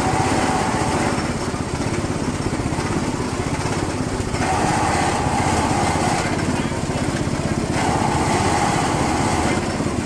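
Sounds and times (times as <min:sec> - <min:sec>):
small petrol engine running: 0:00.0 - 0:10.0.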